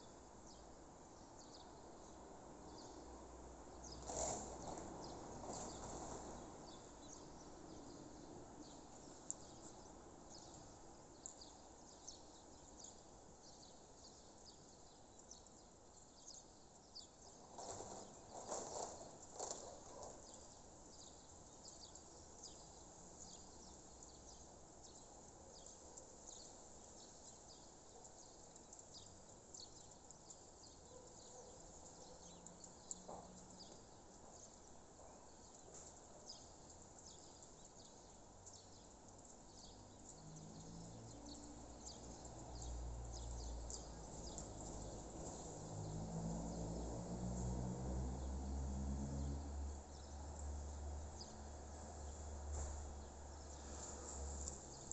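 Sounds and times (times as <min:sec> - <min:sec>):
high chirps of birds and insects: 0:00.0 - 0:54.9.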